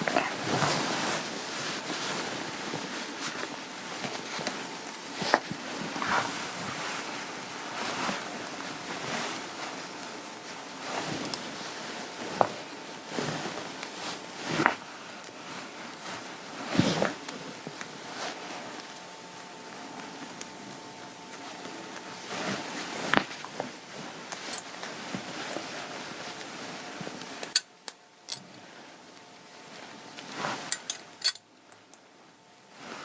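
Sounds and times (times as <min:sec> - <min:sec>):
clothing fabric rustling: 0:00.0 - 0:27.4.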